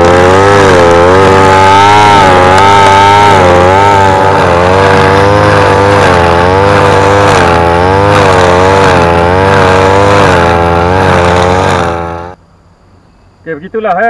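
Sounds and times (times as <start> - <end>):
brush cutter engine running: 0.0 - 12.4.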